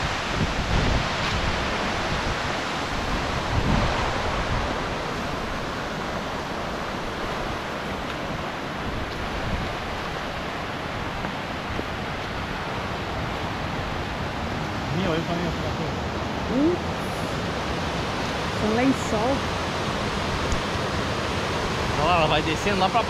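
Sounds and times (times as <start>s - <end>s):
wind buffeting microphone: 0.0s - 21.9s
waterfall rushing: 0.0s - 23.0s.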